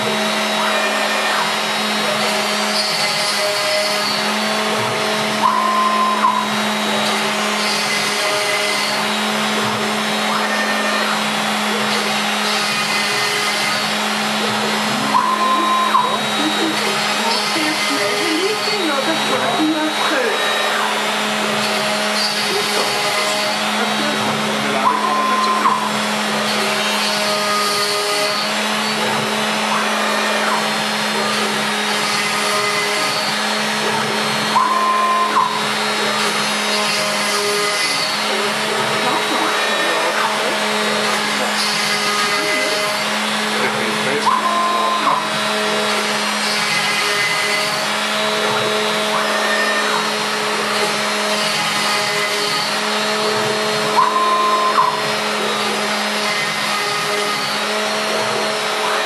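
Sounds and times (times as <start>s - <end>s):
dust extractor rushing: 0.0s - 59.0s
router spindle running: 0.0s - 59.0s.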